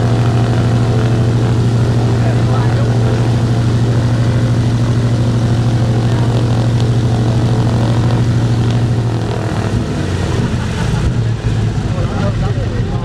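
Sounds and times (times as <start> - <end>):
radial aircraft engine running: 0.0 - 13.0.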